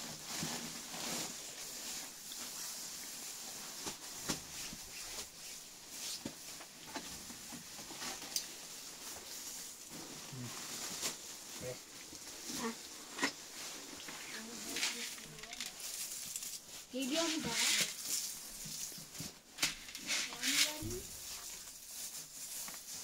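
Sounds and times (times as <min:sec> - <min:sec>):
straw pouring and rustling: 0:00.0 - 0:23.0.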